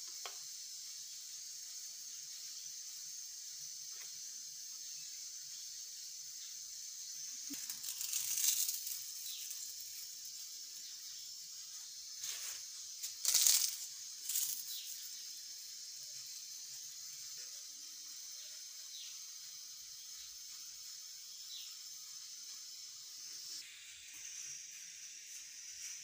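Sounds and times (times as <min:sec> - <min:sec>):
steady high hiss: 0:00.0 - 0:26.0.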